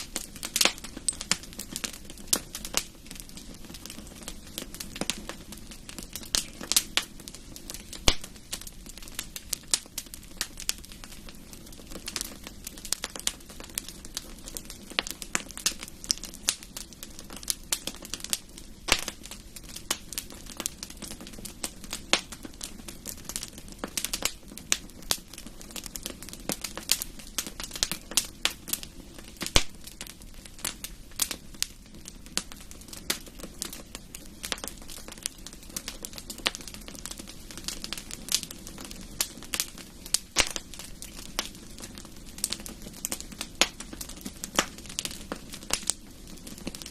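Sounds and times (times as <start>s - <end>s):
hiss of burning: 0.0s - 46.9s
wood fire crackling: 0.0s - 46.9s.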